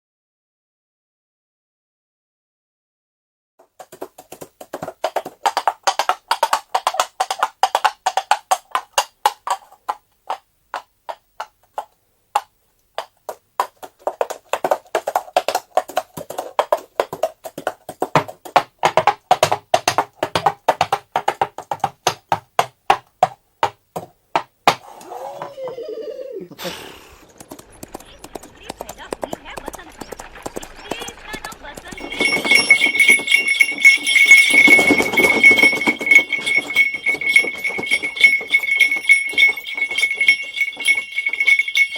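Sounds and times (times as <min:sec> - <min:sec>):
horse hooves clip-clopping: 0:03.6 - 0:24.6, 0:27.2 - 0:41.9.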